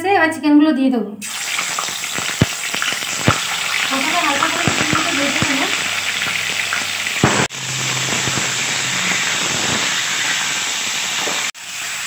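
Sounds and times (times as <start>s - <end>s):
chicken frying in oil: 1.2s - 12.0s.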